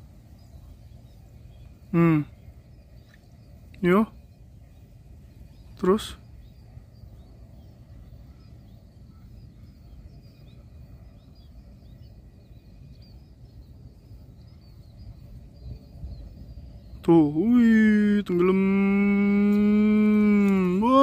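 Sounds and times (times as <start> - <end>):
low outdoor rumble: 0.0 - 21.0
small birds chirping: 0.0 - 21.0.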